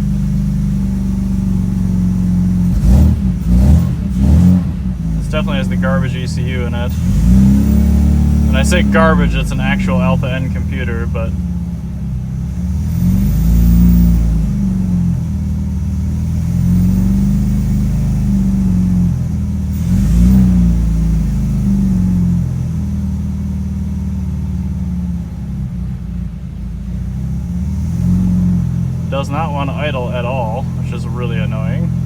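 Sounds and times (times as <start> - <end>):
car engine revving: 0.0 - 26.0, 26.8 - 32.0.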